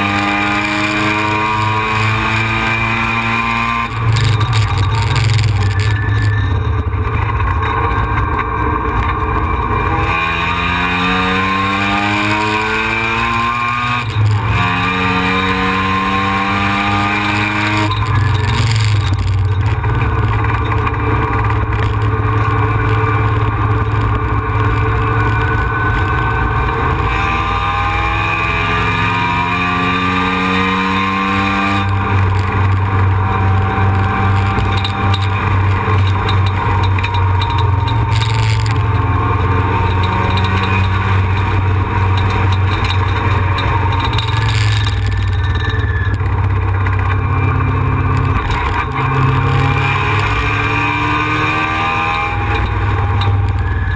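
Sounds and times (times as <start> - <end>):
road and wind noise: 0.0 - 53.9
rotary engine revving: 0.0 - 53.9.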